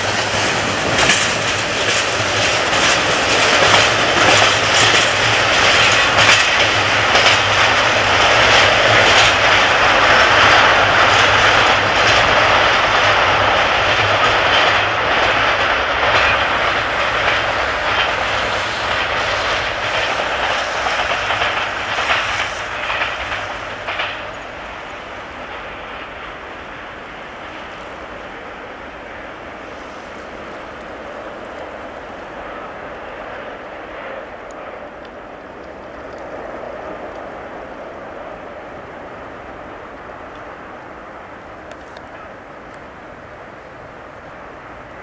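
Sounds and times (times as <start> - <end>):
rail joint clicks: 0.0 - 45.0
train wheels rumbling on rails: 0.0 - 45.0.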